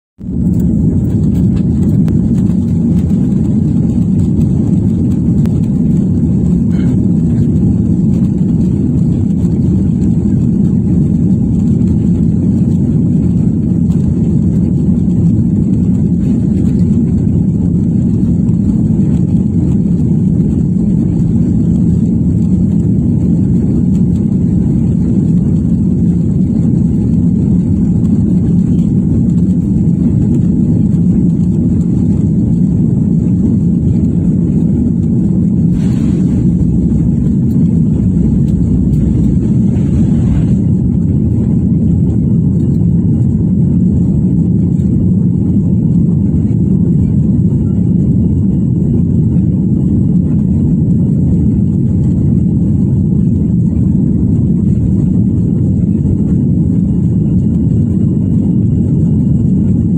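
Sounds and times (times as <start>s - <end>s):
faint high engine whine: 0.2s - 59.9s
jet cabin low rumble: 0.2s - 59.9s.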